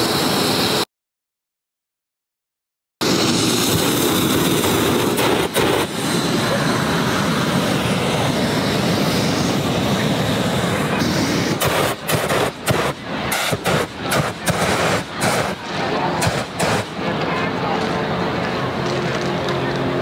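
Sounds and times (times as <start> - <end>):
propane burner roaring: 3.0 - 20.0.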